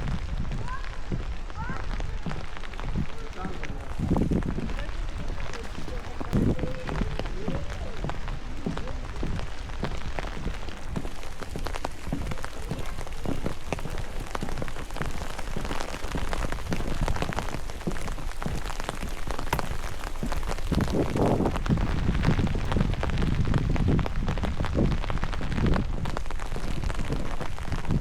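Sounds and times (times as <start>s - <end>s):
low steady rain rumble: 0.0s - 28.0s
raindrops ticking on surfaces: 0.0s - 28.0s.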